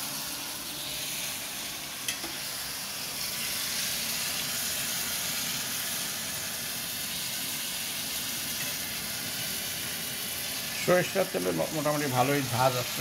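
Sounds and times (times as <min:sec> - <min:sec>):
tomatoes sizzling in oil: 0:00.0 - 0:13.0.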